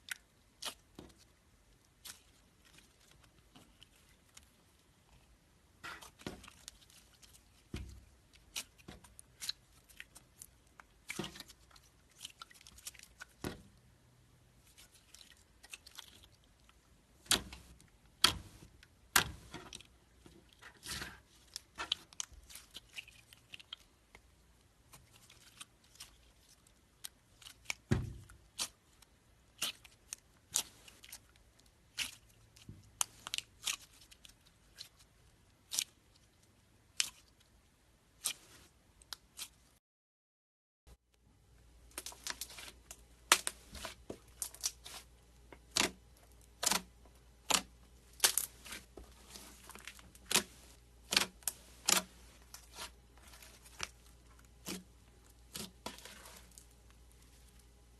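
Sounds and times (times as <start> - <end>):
slime crackling and squishing: 0.0 - 39.8, 41.8 - 57.9.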